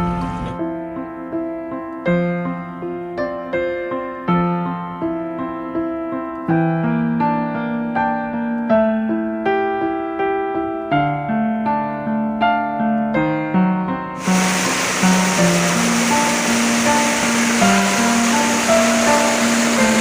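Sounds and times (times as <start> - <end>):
gentle piano chords: 0.0 - 20.0.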